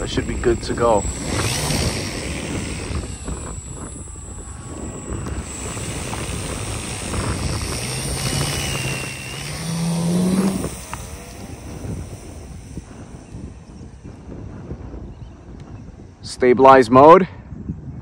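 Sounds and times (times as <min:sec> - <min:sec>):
model plane motor droning: 0:00.0 - 0:16.2
wind noise on microphone: 0:00.0 - 0:18.0.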